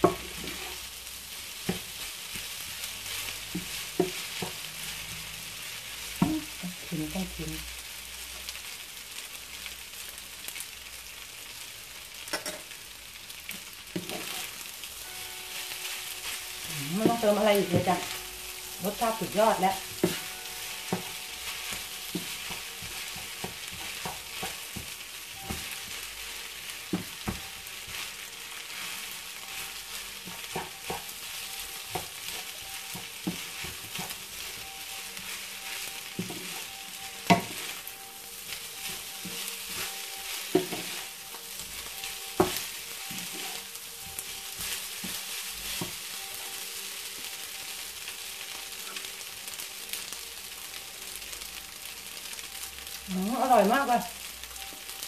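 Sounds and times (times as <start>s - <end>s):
rice sizzling in frying pan: 0.0s - 55.0s.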